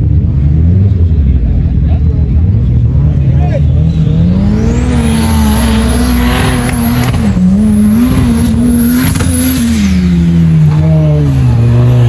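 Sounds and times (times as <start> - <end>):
off-road vehicle motor running: 0.0 - 12.0.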